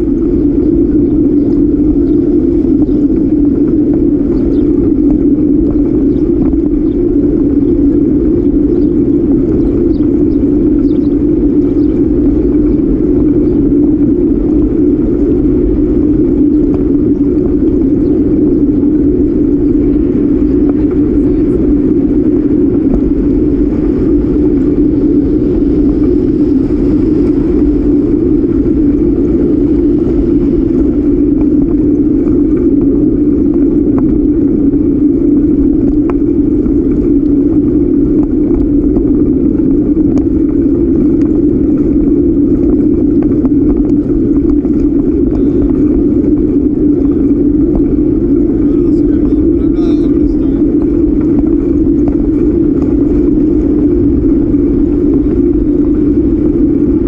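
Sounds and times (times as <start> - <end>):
bicycle rolling noise: 0.0 - 57.0
wind rushing: 0.0 - 57.0.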